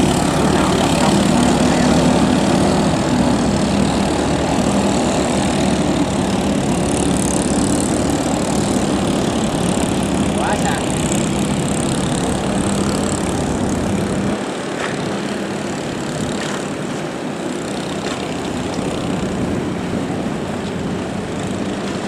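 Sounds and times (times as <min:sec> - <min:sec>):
boat engines droning: 0:00.0 - 0:22.0.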